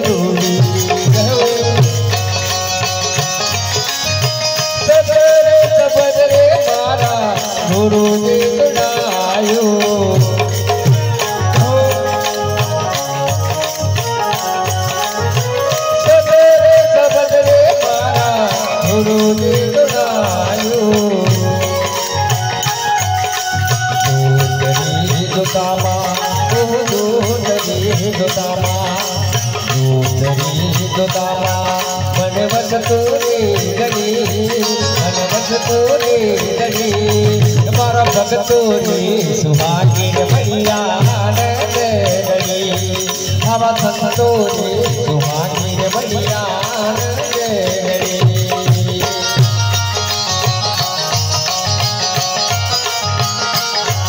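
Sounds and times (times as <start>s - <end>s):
harmonium melody: 0.0s - 54.0s
tabla drumming: 0.0s - 54.0s.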